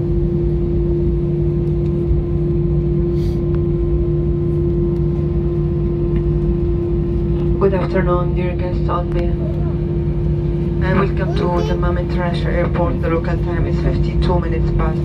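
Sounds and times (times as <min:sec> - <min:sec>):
airliner cabin rumble and drone: 0:00.0 - 0:15.0.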